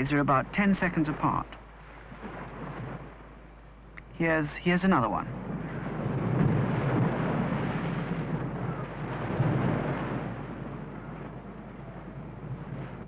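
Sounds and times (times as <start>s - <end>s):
ocean wave breaking: 0.0s - 13.0s.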